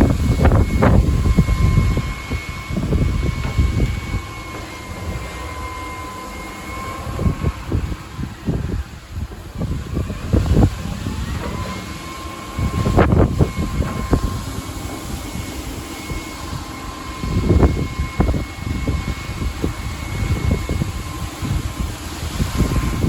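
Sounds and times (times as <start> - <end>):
strong wind gusting through trees: 0.0 - 23.0.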